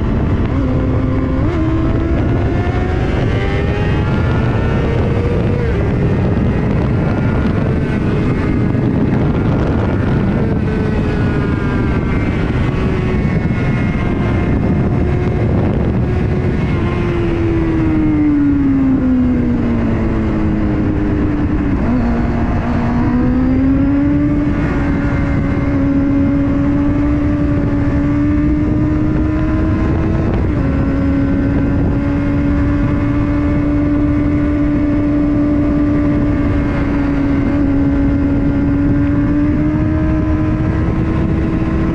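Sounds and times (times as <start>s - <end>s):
motorcycle engine running hard: 0.0s - 41.9s
wind rushing: 0.0s - 41.9s.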